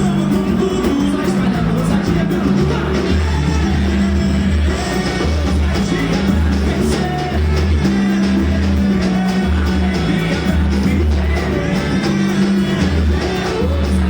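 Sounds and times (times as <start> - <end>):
band playing a song: 0.0 - 14.0
person singing: 0.0 - 14.0.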